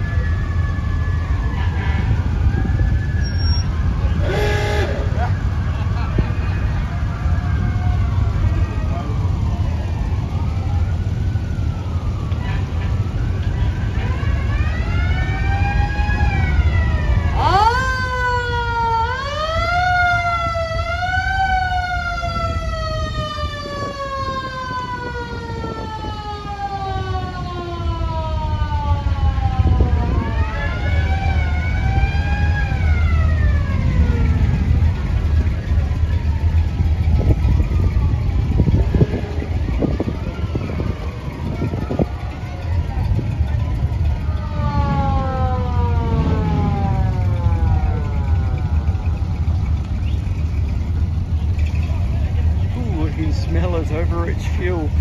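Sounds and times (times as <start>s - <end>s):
siren wailing: 0.0s - 51.6s
car engines rumbling past: 0.0s - 55.0s.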